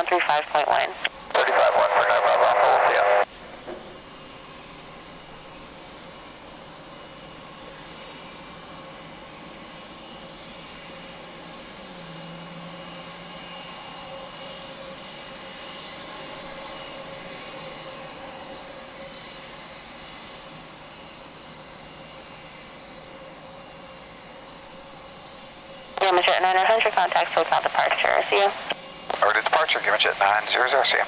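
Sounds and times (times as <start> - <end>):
jet engines at takeoff: 0.0 - 31.0.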